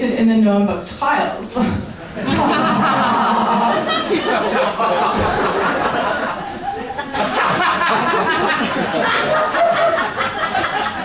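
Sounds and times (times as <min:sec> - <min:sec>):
audience laughing: 0:02.1 - 0:11.0.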